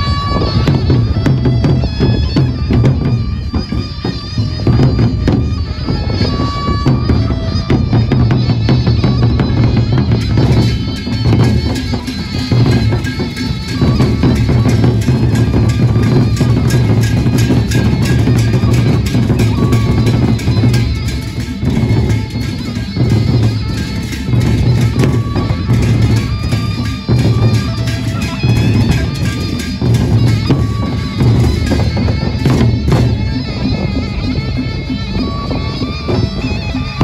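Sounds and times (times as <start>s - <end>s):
barrel drums beating: 0.0s - 37.0s
cymbals: 0.0s - 37.0s
wind instrument high notes: 0.0s - 37.0s.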